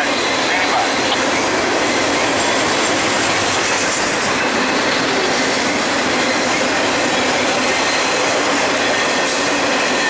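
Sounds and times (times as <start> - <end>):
freight train wheels on rail: 0.0 - 10.0.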